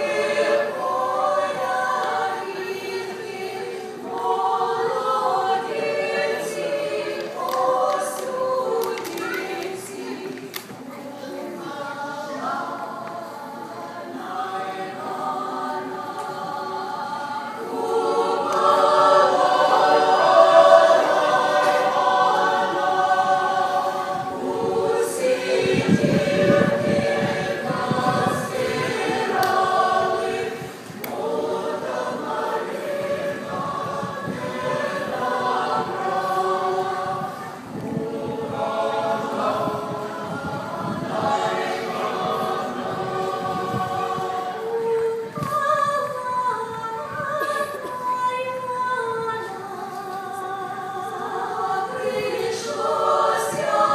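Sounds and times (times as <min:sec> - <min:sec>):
mixed choir singing folk song: 0:00.0 - 0:53.9.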